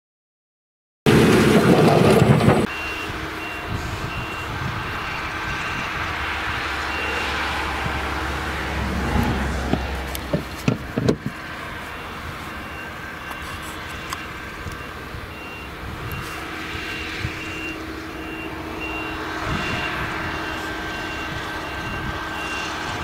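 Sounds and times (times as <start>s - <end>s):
harvester engine running: 1.1s - 23.0s.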